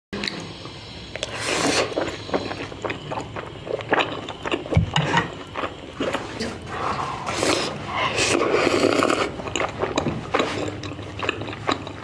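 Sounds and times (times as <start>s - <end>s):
food being chewed and crunched: 1.2s - 6.6s, 7.3s - 12.0s.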